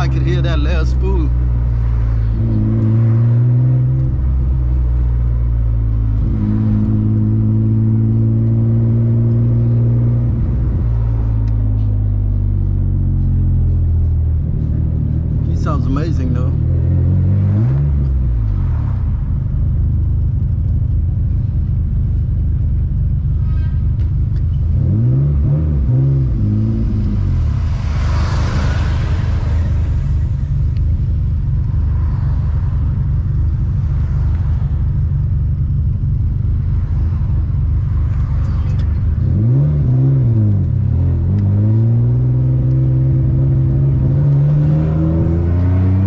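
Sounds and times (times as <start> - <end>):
car engine rumbling: 0.0 - 46.0.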